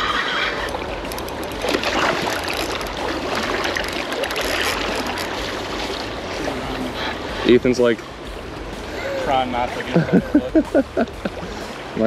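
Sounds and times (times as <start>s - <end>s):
river water rushing and splashing: 0.0s - 12.0s.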